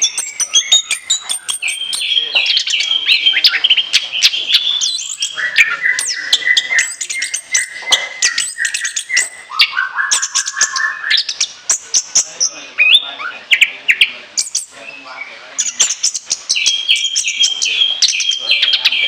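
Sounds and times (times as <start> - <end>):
thrush singing: 0.0 - 19.0.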